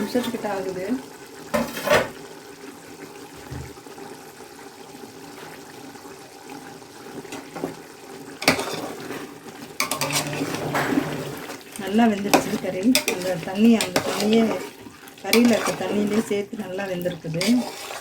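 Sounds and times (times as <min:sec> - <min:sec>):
food bubbling in a pot: 0:00.0 - 0:18.0.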